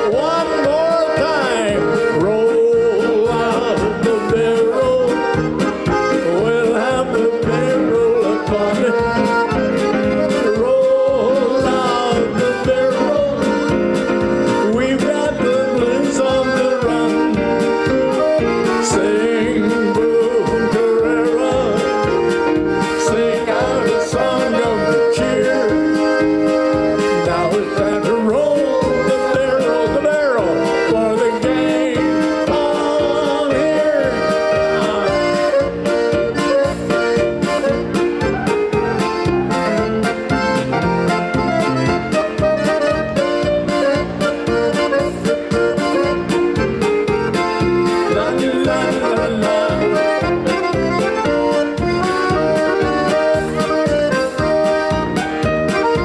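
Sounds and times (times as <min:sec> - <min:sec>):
accordion polka: 0:00.0 - 0:56.0
keyboard backing: 0:00.0 - 0:56.0.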